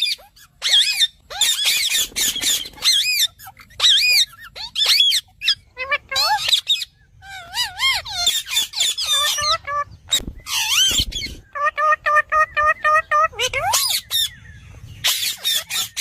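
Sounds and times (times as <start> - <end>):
parrot chattering and squawking: 0.0 - 14.3, 15.0 - 16.0.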